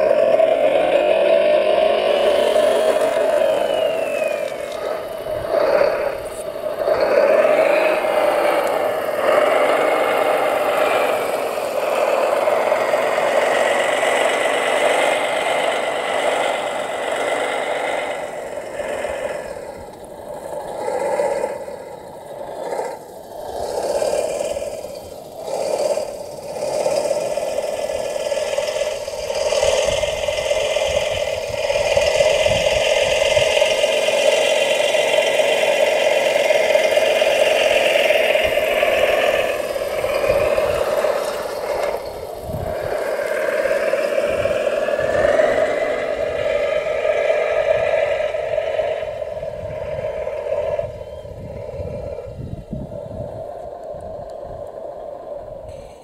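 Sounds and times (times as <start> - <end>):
model loader motor whine: 0.0 - 56.0.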